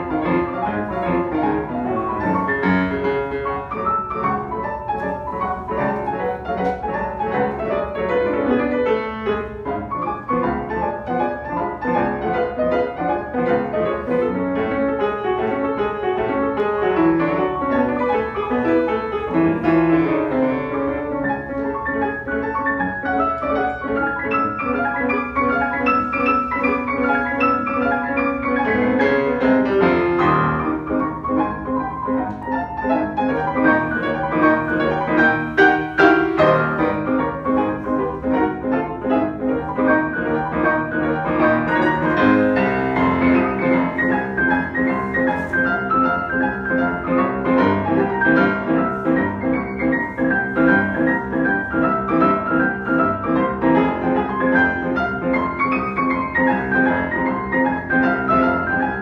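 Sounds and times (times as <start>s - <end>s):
grand piano duet: 0.0s - 59.0s.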